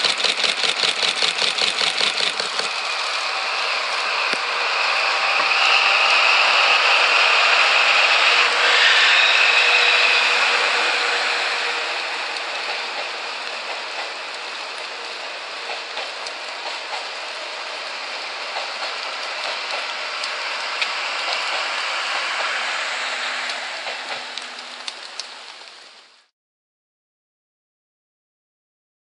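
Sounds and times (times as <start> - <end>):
rain hissing: 0.0 - 26.3
train coaches rolling: 0.0 - 26.3.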